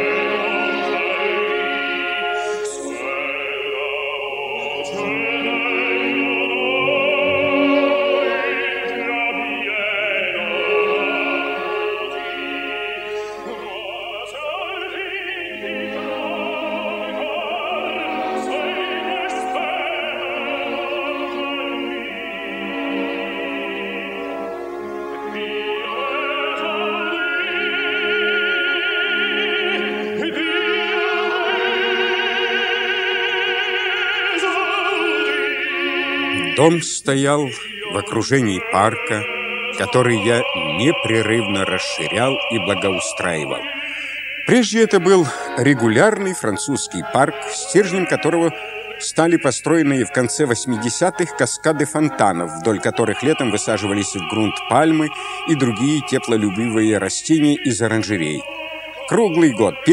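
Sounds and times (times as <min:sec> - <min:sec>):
classical accompaniment: 0:00.0 - 0:59.9
operatic singing with vibrato: 0:00.0 - 0:59.9.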